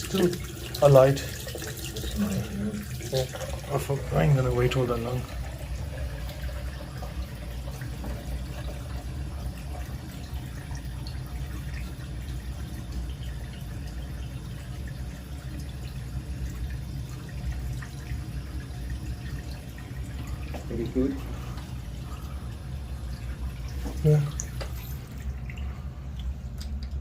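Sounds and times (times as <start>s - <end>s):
steady low hum: 0.0s - 27.0s
tap water running into sink: 0.0s - 27.0s.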